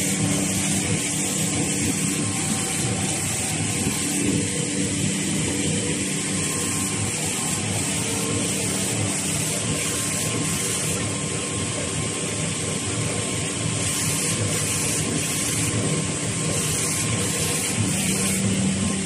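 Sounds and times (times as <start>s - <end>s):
machinery whirring and clattering: 0.0s - 19.0s.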